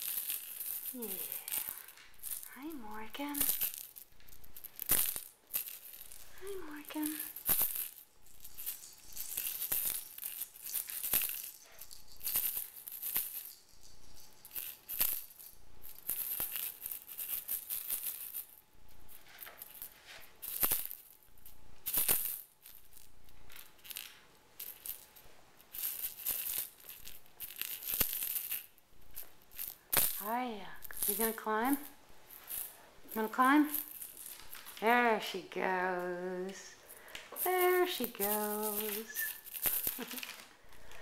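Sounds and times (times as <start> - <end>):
plastic balls rattling in toy tracks: 0.0 - 18.6, 21.8 - 35.4, 36.5 - 41.0.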